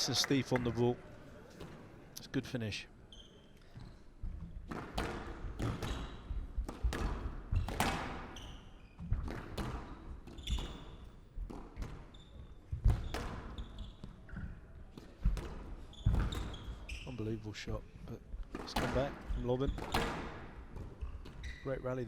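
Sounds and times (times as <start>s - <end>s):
shoes squeaking on court floor: 3.1s - 22.0s.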